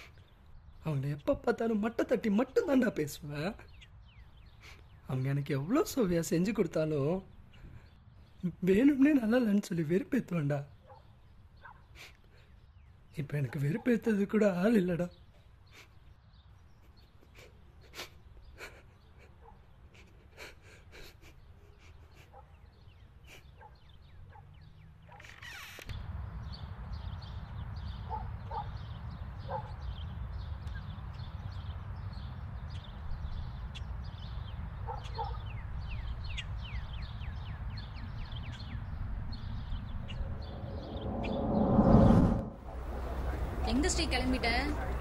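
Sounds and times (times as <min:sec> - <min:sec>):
small birds chirping: 0:00.0 - 0:42.0, 0:42.6 - 0:45.0
low rumble of outdoor ambience: 0:00.0 - 0:45.0.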